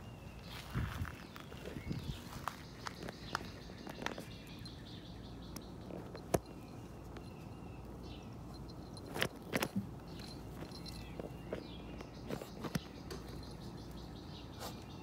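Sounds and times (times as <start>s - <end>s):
animals scuffling in dirt and grass: 0.0s - 15.0s.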